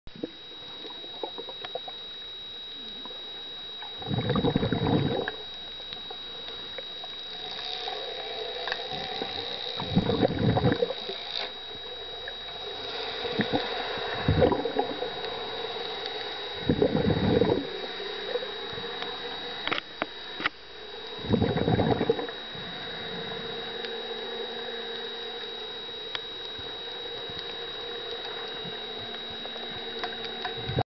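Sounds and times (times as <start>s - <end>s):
muffled underwater noise: 0.1s - 30.8s
thin high whine: 0.1s - 30.8s.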